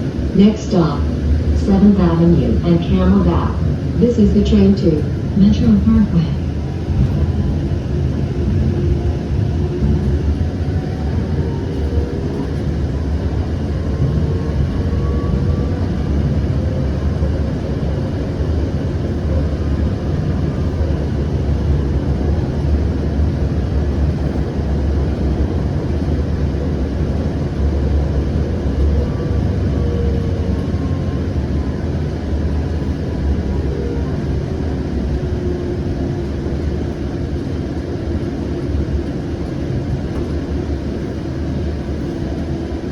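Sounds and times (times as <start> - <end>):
light rail running rumble: 0.0 - 42.9.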